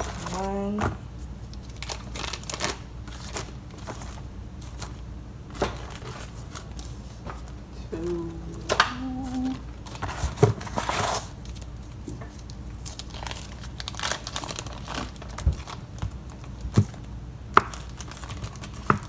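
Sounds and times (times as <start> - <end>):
plastic and paper crinkling: 0.0 - 19.0.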